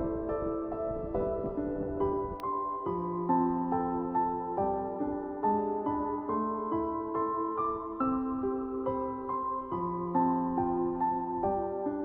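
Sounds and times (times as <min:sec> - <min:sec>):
soft new-age piano music: 0:00.0 - 0:12.0.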